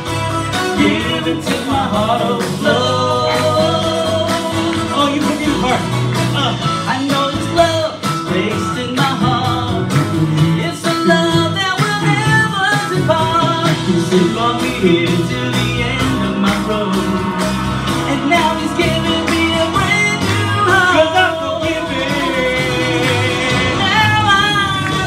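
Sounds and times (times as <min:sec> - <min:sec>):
accompaniment with steady beat: 0:00.0 - 0:25.0
men singing into microphones: 0:00.5 - 0:25.0.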